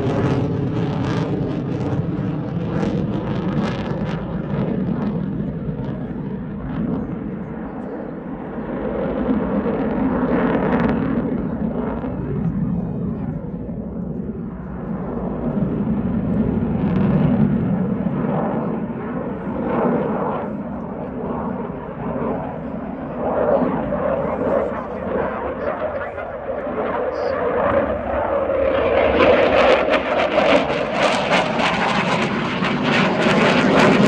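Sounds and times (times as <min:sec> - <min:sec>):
loud jet noise: 0:00.0 - 0:07.5, 0:08.6 - 0:34.0.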